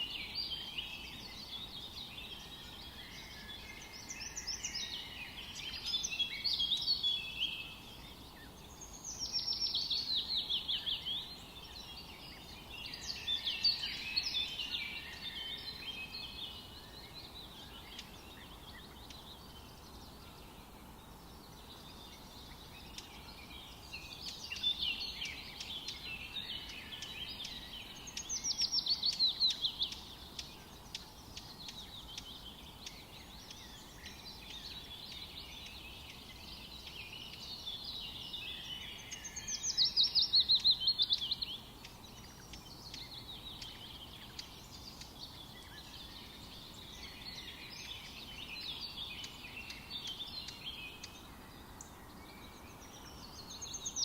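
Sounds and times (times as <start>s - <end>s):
faint steady hiss: 0.0s - 54.0s
songbirds singing: 0.0s - 54.0s.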